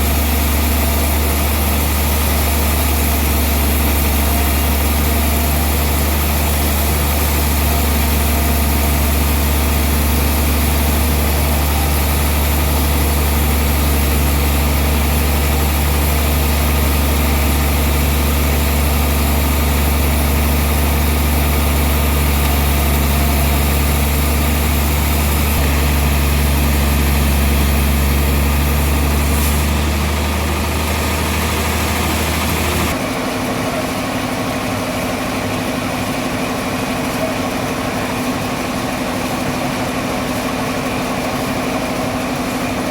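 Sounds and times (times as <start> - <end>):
deep engine hum: 0.0 - 42.9.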